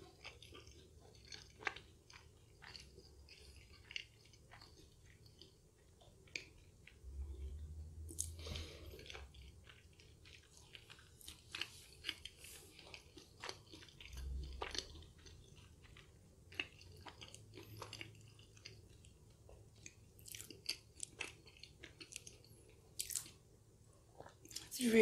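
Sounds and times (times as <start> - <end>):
chewing pastry: 0.0 - 24.8.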